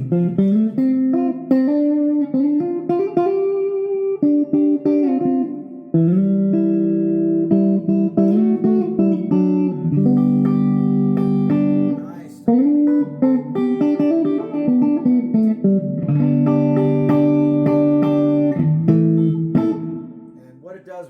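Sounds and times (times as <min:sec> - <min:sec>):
electric guitar through an amp: 0:00.0 - 0:20.5.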